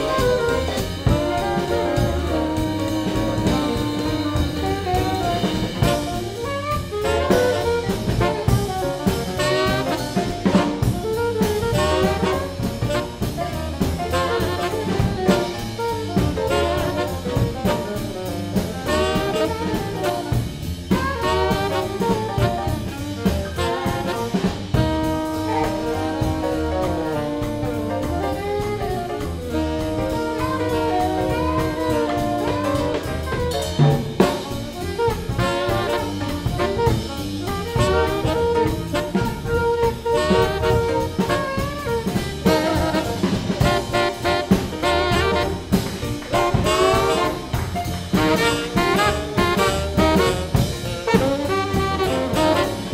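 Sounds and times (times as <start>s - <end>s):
alto saxophone solo: 0.0s - 52.9s
swing jazz band playing: 0.0s - 52.9s
swung drum kit: 0.0s - 52.9s.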